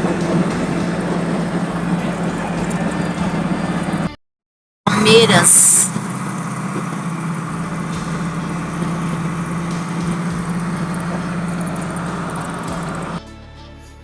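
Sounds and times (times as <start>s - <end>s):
road noise: 0.0s - 4.2s, 4.9s - 13.2s
vehicle engine drone: 0.0s - 4.2s, 4.9s - 13.2s.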